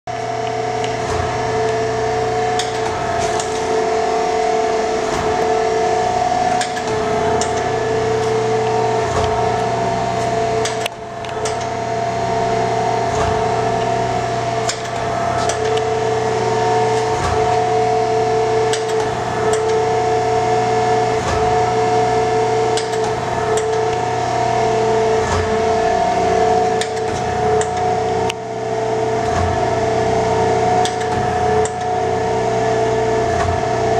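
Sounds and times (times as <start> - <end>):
grinder machine hum: 0.1 - 33.9.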